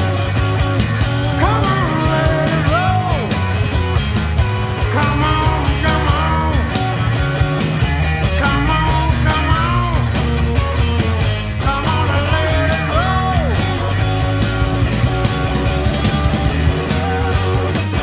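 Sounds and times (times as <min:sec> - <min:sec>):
instrumental rock music: 0:00.0 - 0:18.0.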